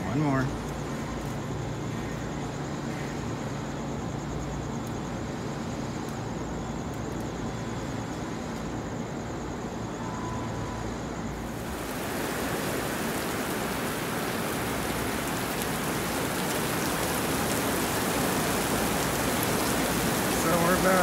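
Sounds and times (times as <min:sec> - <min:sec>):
heavy rain on pavement: 0:00.0 - 0:09.2, 0:09.8 - 0:21.0.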